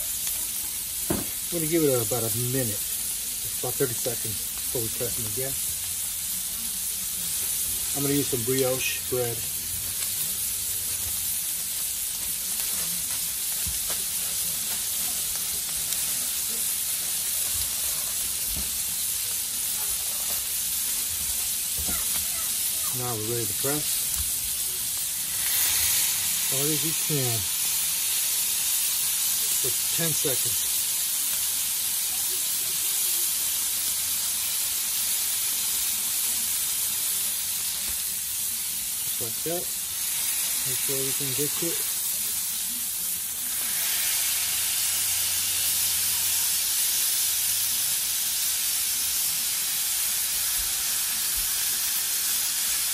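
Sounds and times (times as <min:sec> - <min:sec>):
patties sizzling on griddle: 0:00.0 - 0:52.9.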